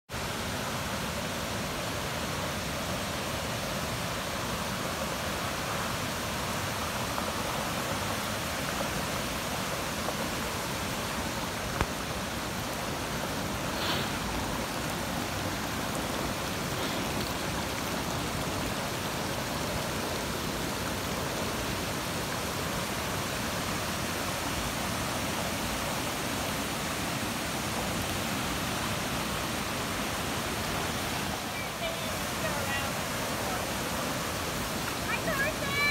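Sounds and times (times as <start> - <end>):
floodwater rushing: 0.1 - 35.9.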